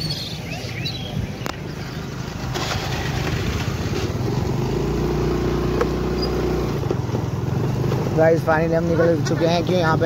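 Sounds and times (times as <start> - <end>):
small motorbike engine humming: 1.4 - 10.0.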